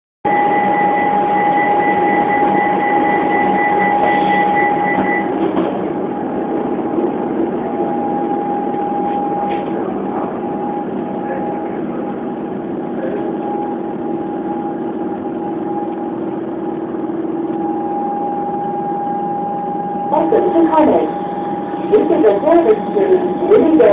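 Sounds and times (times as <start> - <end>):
constant high whine: 0.3 - 23.9
higher tone: 0.3 - 23.9
train running noise: 0.3 - 23.9.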